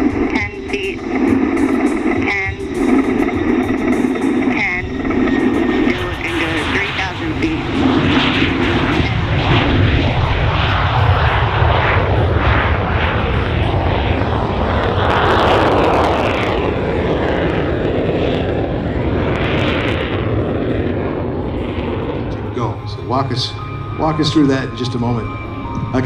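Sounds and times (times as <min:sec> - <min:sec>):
jet engine rumble and hiss: 0:00.0 - 0:26.0.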